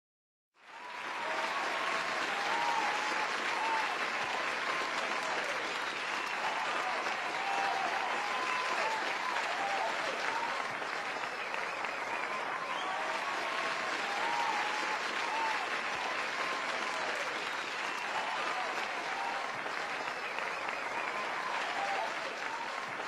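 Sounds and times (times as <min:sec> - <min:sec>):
crowd applauding: 0:00.6 - 0:23.0
people cheering: 0:00.6 - 0:23.0.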